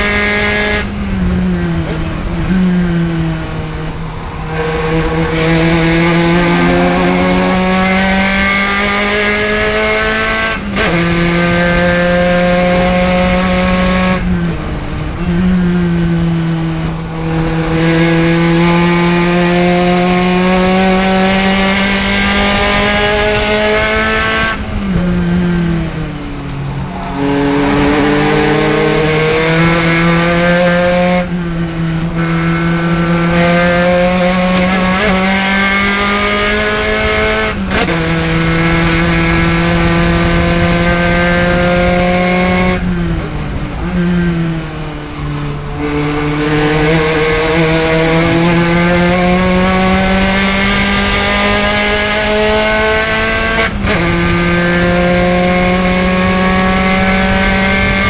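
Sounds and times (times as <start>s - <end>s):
gear shifting: 0.0s - 58.0s
racing car engine revving: 0.0s - 58.0s.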